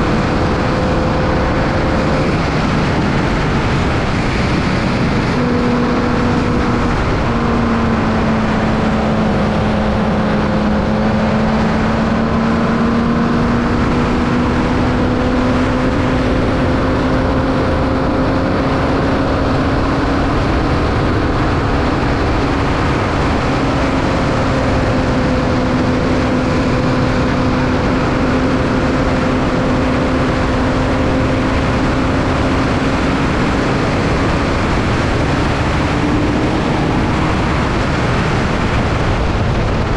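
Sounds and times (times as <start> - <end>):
loud rushing noise: 0.0 - 39.9
racing car engine running: 0.0 - 39.9.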